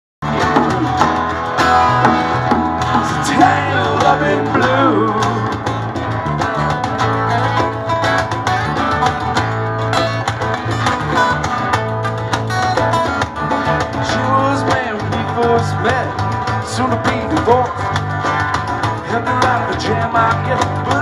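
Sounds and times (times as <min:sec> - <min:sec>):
acoustic guitar strumming: 0:00.2 - 0:21.0
bass line: 0:00.2 - 0:21.0.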